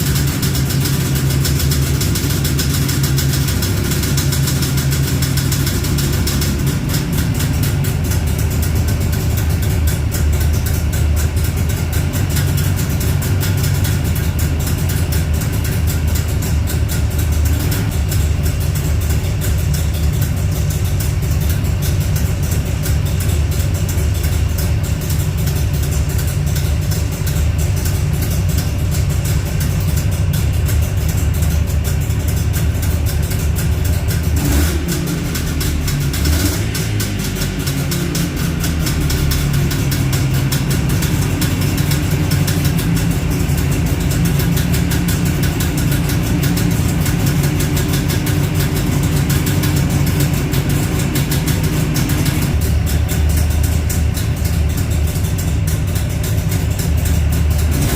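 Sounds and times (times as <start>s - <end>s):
two-stroke engine idling: 0.0s - 57.9s.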